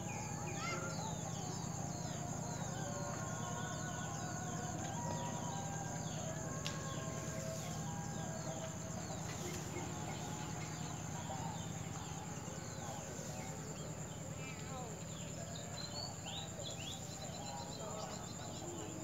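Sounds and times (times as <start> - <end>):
birds chirping: 0.0 - 19.0
high-pitched insect drone: 0.0 - 19.0.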